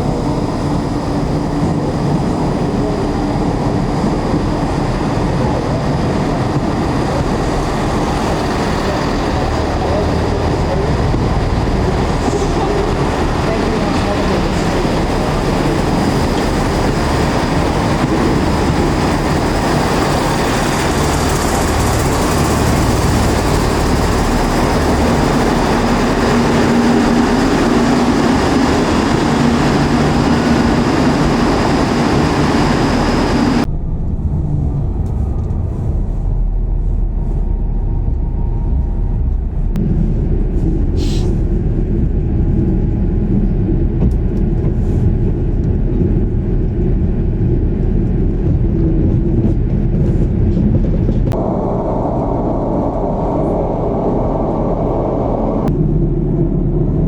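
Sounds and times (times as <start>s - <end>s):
diesel train rumbling: 0.0s - 57.0s.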